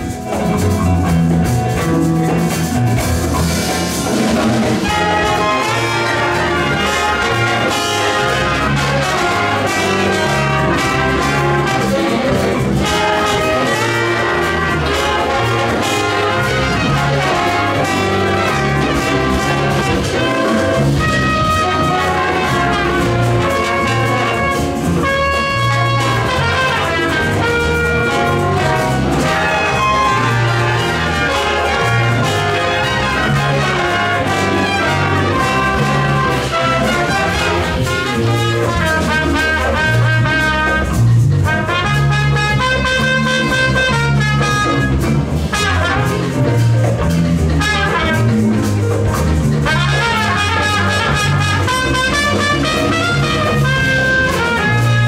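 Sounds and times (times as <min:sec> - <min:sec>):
bass: 0:00.0 - 0:55.0
drums: 0:00.0 - 0:55.0
piano: 0:00.0 - 0:55.0
trombones: 0:00.0 - 0:55.0
trumpets: 0:03.9 - 0:55.0
saxophones: 0:04.8 - 0:46.7, 0:49.6 - 0:55.0.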